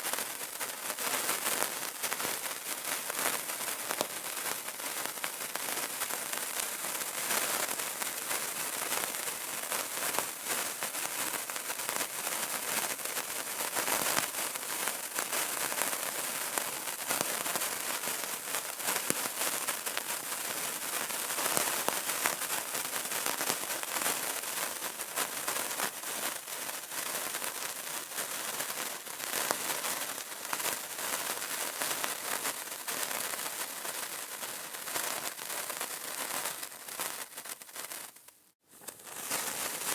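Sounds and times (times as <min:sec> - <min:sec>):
candle crackling: 0:00.0 - 0:27.0, 0:27.7 - 0:39.9.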